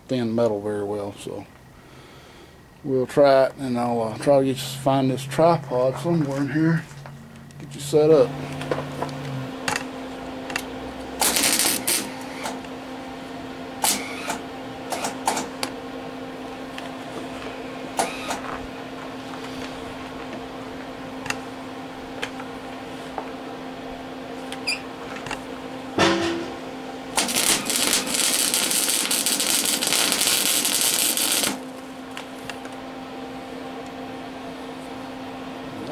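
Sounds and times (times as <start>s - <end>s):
low hum: 2.6s - 35.8s.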